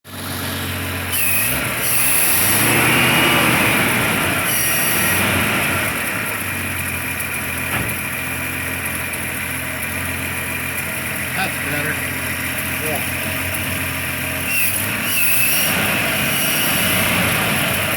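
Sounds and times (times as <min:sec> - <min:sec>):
truck engine revving and idling: 0:00.1 - 0:17.9.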